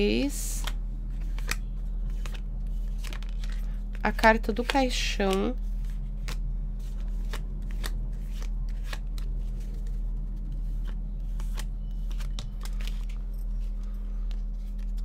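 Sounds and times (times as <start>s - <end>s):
steady low hum: 0.0s - 15.0s
cards being shuffled: 0.6s - 15.0s.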